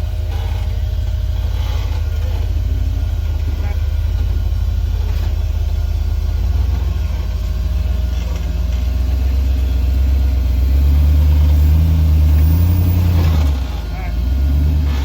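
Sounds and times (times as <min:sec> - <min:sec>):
engine rumbling and revving: 0:00.0 - 0:15.0.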